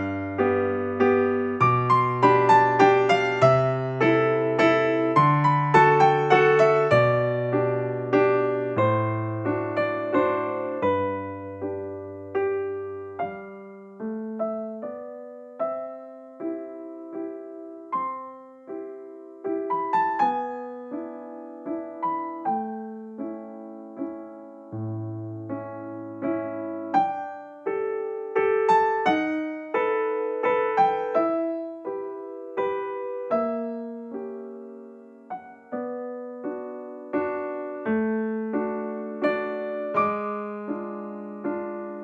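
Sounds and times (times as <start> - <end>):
slow piano melody: 0.0 - 42.0.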